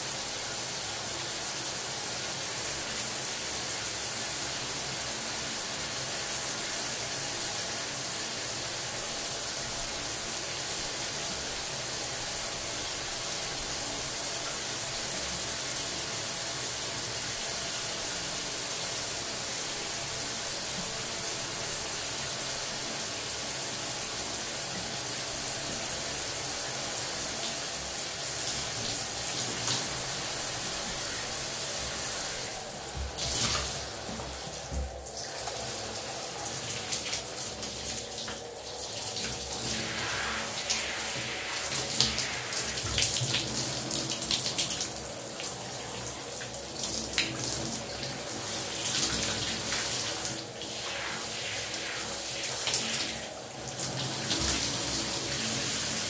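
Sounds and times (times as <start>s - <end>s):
shower water spraying: 0.0s - 56.0s.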